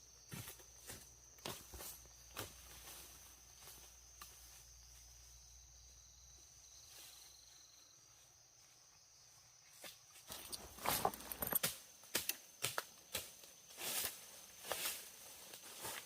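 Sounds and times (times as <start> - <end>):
insect trill: 0.0 - 16.0.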